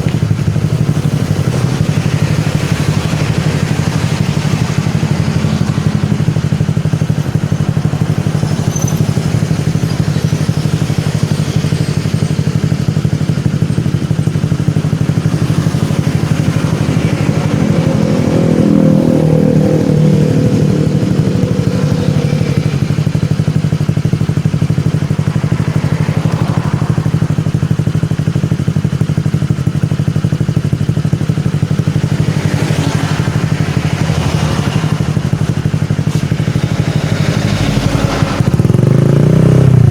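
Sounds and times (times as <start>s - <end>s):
scooter engine idling: 0.0s - 39.9s
scooter engine revving: 0.0s - 39.9s.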